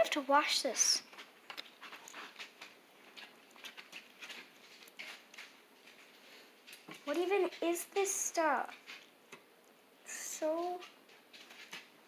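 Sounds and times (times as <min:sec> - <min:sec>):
plastic wrappers rustling: 0:01.0 - 0:09.2, 0:10.4 - 0:12.0.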